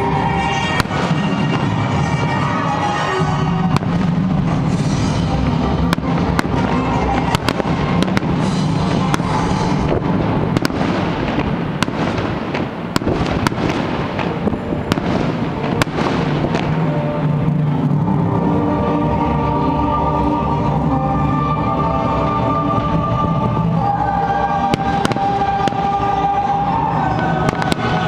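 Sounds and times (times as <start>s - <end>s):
fireworks bangs and crackling: 0.0s - 18.4s, 23.2s - 28.0s
loud music: 0.0s - 28.0s.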